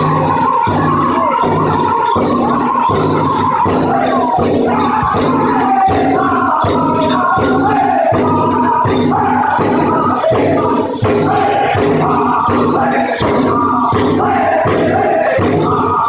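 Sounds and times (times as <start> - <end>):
bells jingling: 0.0 - 16.0
big drum beats: 0.0 - 16.0
group singing in high voices: 0.0 - 16.0.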